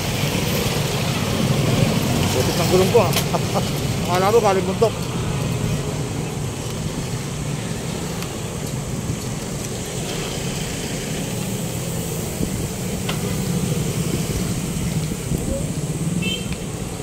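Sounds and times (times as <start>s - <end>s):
road traffic noise: 0.0s - 17.0s
vehicle engine hum: 0.0s - 17.0s.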